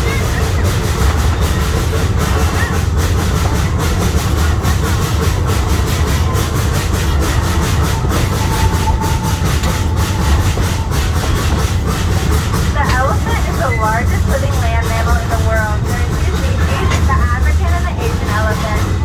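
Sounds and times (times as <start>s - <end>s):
rail clicking: 0.0s - 19.0s
train rumbling: 0.0s - 19.0s.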